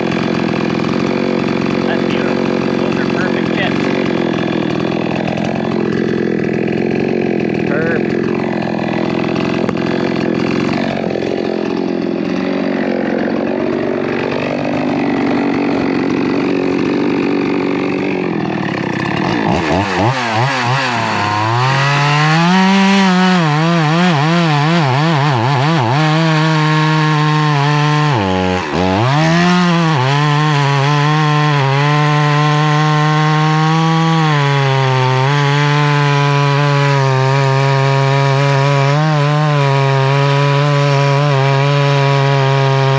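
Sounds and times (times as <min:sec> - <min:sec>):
chainsaw running: 0:00.0 - 0:42.9.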